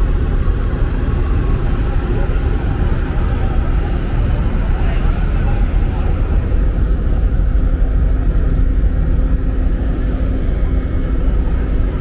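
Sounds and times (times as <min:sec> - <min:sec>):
bus engines idling: 0:00.0 - 0:12.0.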